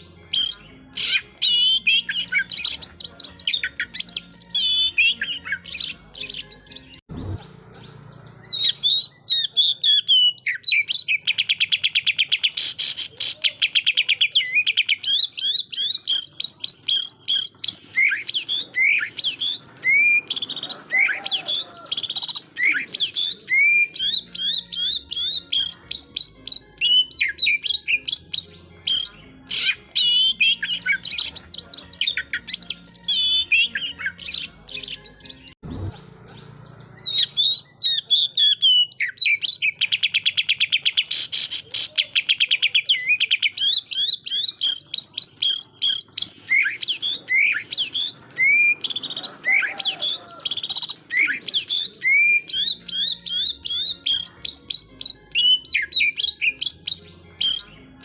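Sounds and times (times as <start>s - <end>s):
bird singing whistled chattering song: 0.0s - 58.0s.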